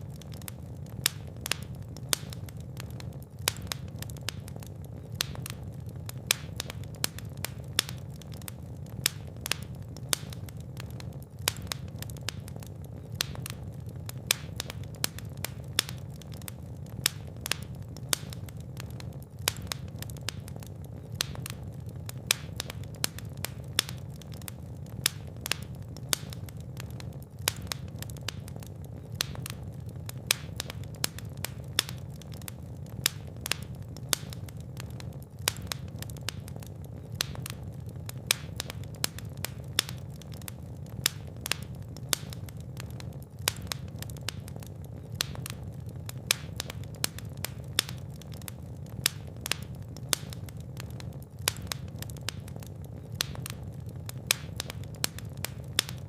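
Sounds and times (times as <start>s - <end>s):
fireplace fire crackling: 0.0s - 56.0s
low rumble of burning flames: 0.0s - 56.0s
sharp pops and snaps of fire: 0.0s - 56.0s.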